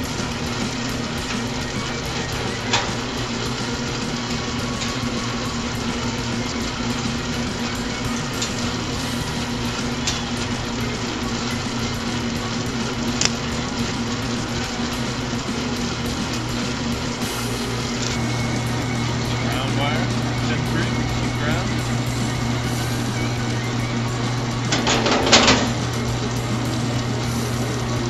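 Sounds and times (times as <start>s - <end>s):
wire stripping machine humming: 0.0s - 28.0s.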